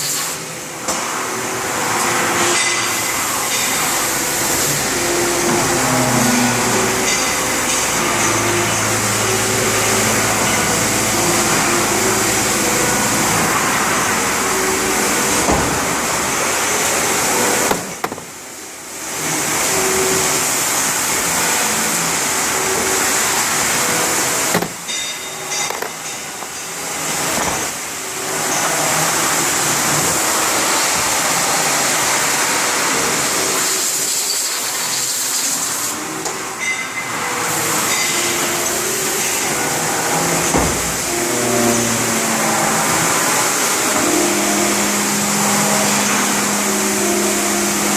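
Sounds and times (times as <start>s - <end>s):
cnc machine whirring hiss: 0.0s - 47.9s.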